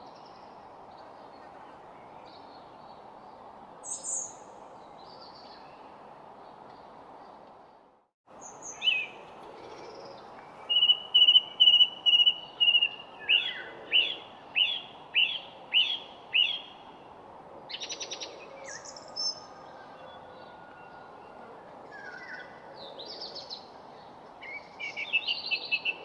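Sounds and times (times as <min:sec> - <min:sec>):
songbird singing: 0:00.0 - 0:17.1, 0:17.7 - 0:26.0.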